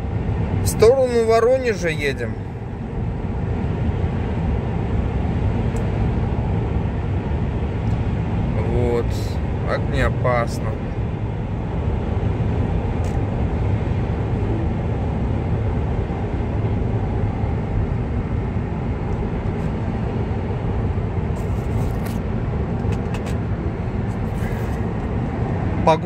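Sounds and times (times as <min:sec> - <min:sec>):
road and tyre noise in car: 0:00.0 - 0:26.0.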